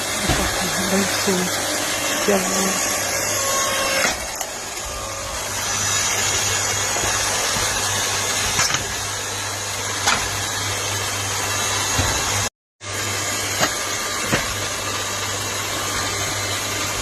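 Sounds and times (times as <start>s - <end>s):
log splitter motor humming: 0.0s - 17.0s.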